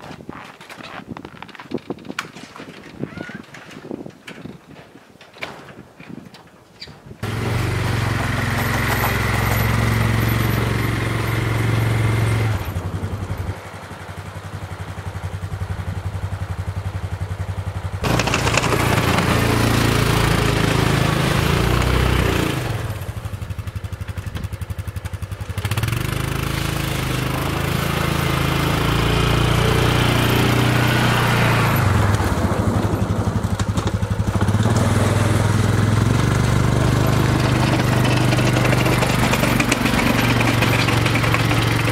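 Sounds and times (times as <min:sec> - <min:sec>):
vehicle engine running: 0:07.2 - 0:41.9.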